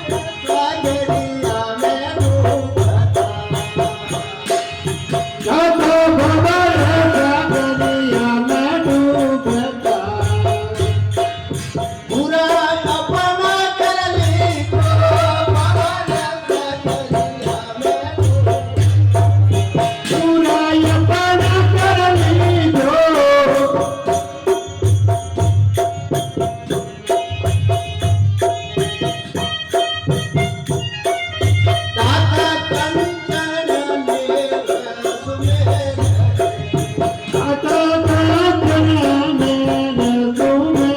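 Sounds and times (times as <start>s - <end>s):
drum beats: 0.0s - 40.9s
person singing devotional song: 0.0s - 40.9s
rattling hand percussion: 0.0s - 40.9s.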